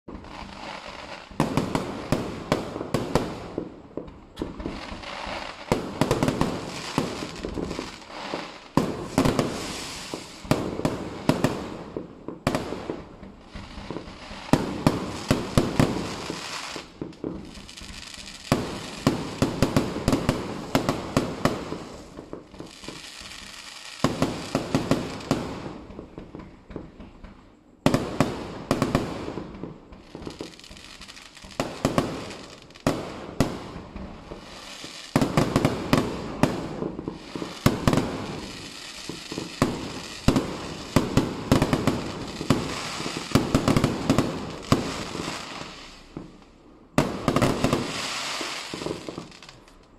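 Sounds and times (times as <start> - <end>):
fireworks bangs and crackling: 0.1 - 49.9.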